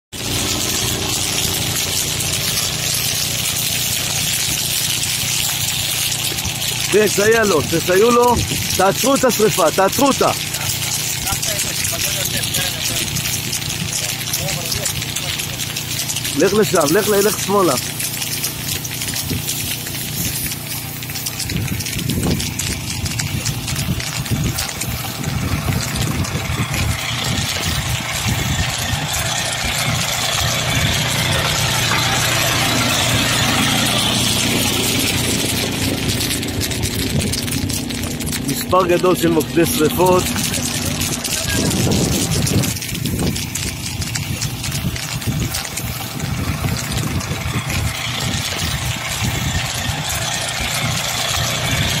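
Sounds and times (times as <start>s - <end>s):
pump hissing: 0.1s - 52.0s
utility vehicle engine hum: 0.1s - 52.0s.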